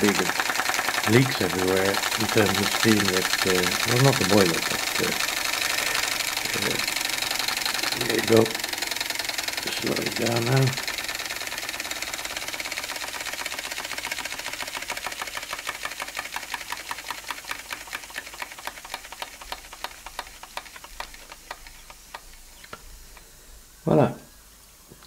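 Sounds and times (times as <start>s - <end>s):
toy steam engine chuffing: 0.0s - 23.3s.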